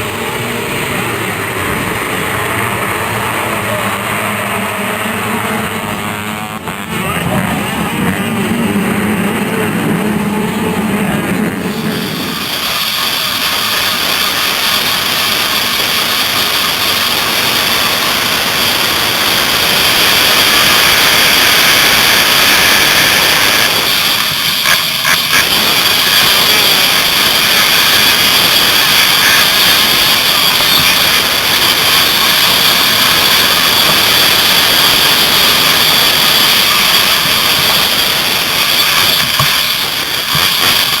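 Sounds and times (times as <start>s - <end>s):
motocross bike engines racing: 0.0s - 41.0s.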